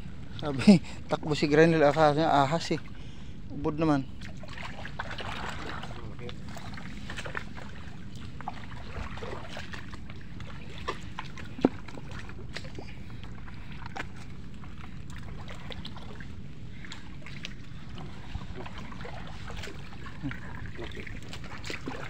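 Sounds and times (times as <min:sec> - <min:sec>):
shallow water sloshing and dripping: 0:00.0 - 0:22.0
steady low rumble: 0:00.0 - 0:22.0.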